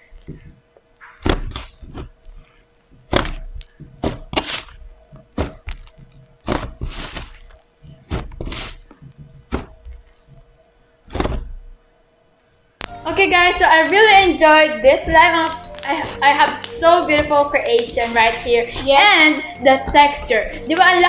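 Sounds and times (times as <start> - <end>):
slime air pockets popping: 0.2 - 10.4, 11.1 - 11.8, 14.9 - 21.0.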